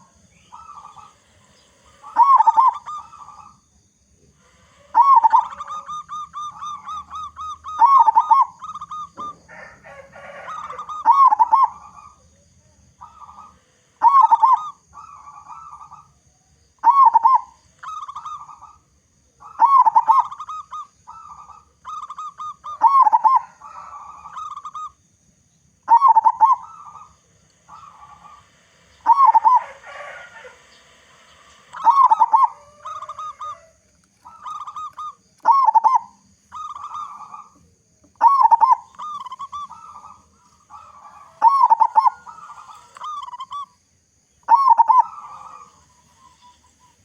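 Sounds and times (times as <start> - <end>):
dove cooing: 0.0 - 25.0, 25.9 - 43.8, 44.4 - 47.0.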